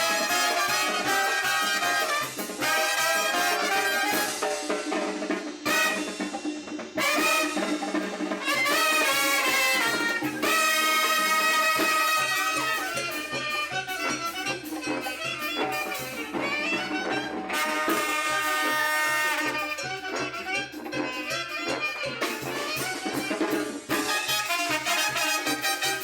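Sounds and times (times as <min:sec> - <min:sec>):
brass section playing chords: 0:00.0 - 0:04.8, 0:05.6 - 0:06.4, 0:07.0 - 0:26.0.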